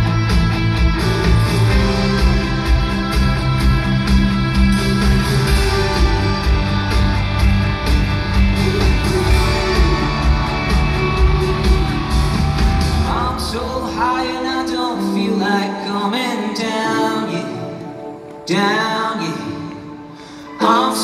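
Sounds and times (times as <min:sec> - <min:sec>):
live pop-rock band: 0:00.0 - 0:21.0.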